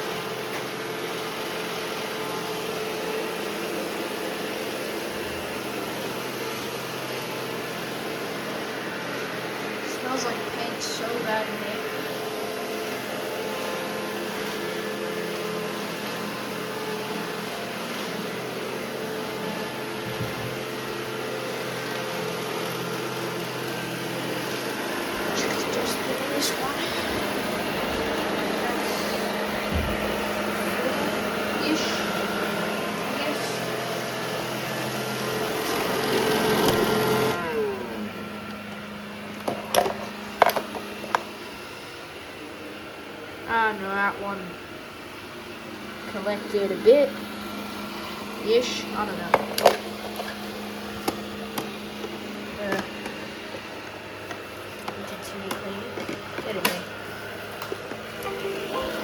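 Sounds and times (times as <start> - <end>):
robot vacuum cleaners whirring: 0.0 - 59.0.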